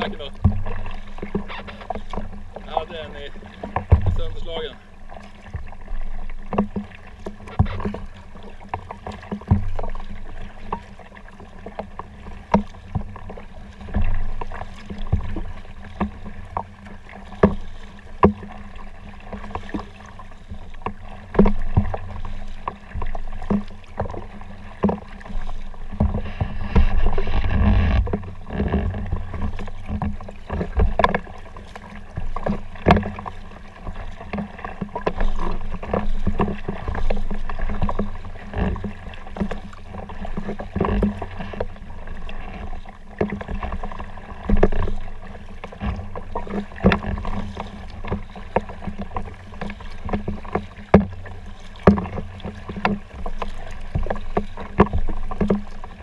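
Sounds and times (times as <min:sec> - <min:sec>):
low rumble of water: 0:00.0 - 0:56.0
paddle strokes splashing: 0:00.0 - 0:56.0.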